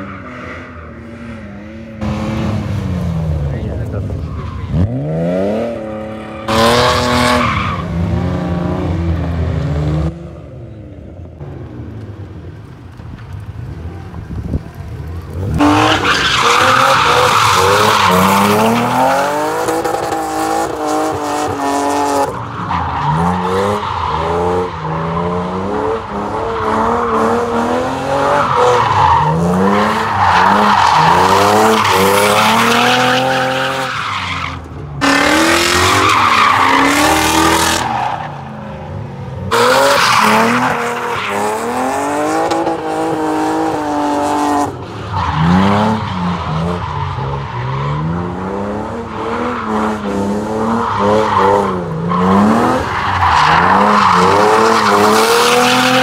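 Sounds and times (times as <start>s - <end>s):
tyres squealing on asphalt: 0.0s - 2.6s, 3.9s - 8.4s, 14.9s - 44.0s, 44.7s - 56.0s
car engines revving: 0.0s - 56.0s.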